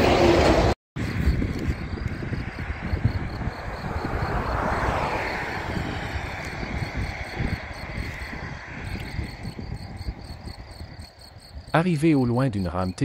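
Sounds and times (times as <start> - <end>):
high-speed train rushing past: 0.0 - 11.1
wind buffeting microphone: 1.0 - 11.8
insects chirping: 1.0 - 13.0.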